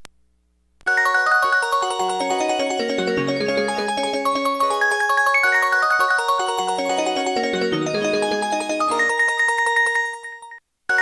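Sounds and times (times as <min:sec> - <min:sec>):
phone ringtone: 0:00.9 - 0:11.0.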